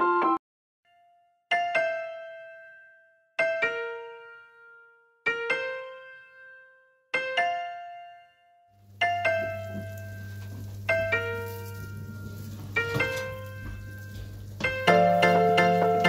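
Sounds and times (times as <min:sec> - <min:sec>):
slow piano chords: 0:01.5 - 0:16.0.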